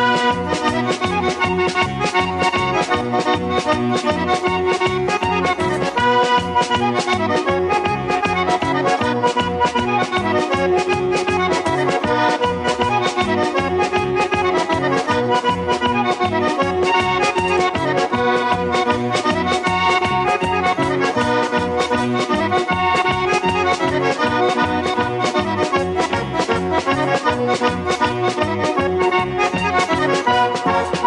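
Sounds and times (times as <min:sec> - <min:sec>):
button accordion playing fast dance: 0:00.0 - 0:31.0.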